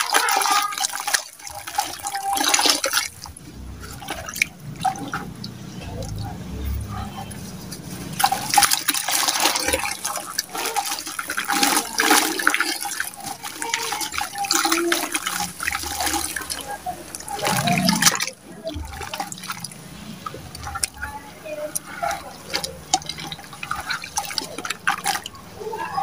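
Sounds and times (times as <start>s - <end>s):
grit splashing into water: 0.0s - 25.7s.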